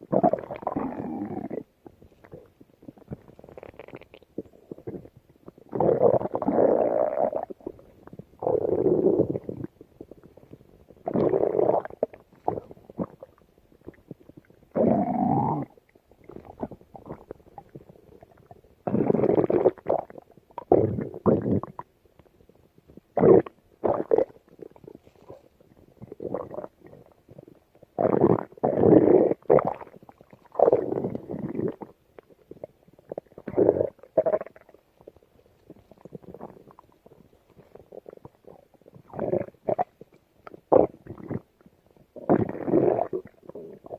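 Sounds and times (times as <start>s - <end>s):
stomach growling: 0.0s - 43.9s.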